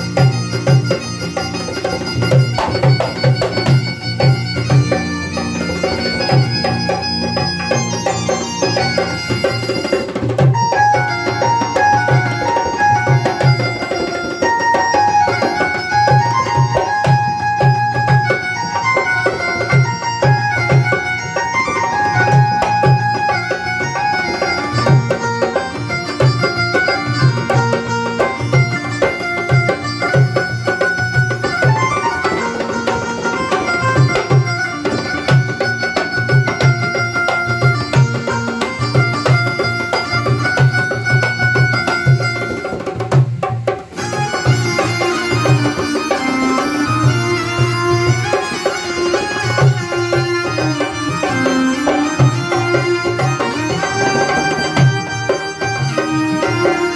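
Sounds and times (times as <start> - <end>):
melody of long held notes: 0.0 - 43.0, 43.8 - 56.9
hand drum beat: 0.0 - 56.9.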